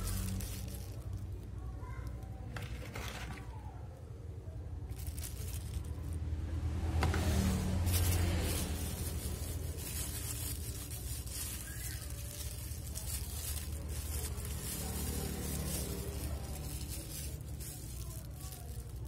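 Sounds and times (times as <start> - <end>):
plastic bag crinkling: 0.0 - 3.7, 4.7 - 6.2, 7.1 - 19.0.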